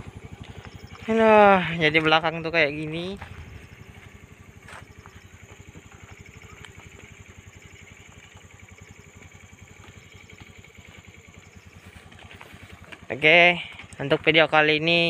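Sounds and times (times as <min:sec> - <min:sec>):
small engine running: 0:00.0 - 0:15.0
faint high chirps: 0:00.4 - 0:12.8.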